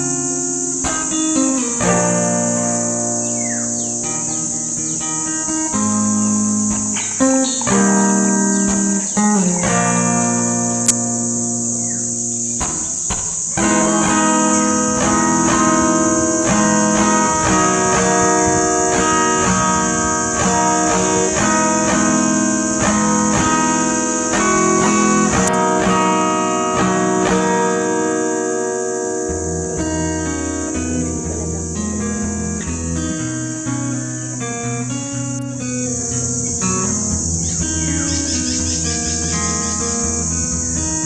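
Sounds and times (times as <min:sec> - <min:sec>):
acoustic guitar plucking: 0:00.0 - 0:41.0
high-pitched hiss: 0:00.0 - 0:41.0.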